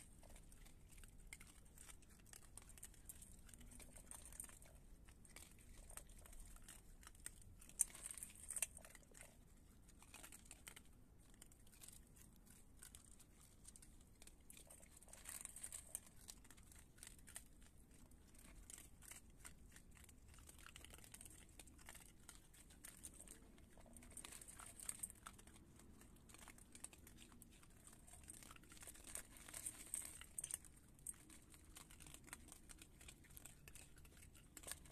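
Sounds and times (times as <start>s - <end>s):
kibble crunching in metal bowl: 0.0s - 34.9s.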